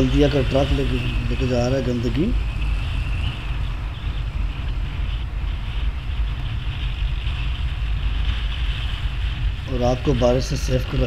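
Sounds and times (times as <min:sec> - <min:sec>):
motorcycle engine and road noise: 0:00.0 - 0:11.0
wind rushing over microphone: 0:00.0 - 0:11.0.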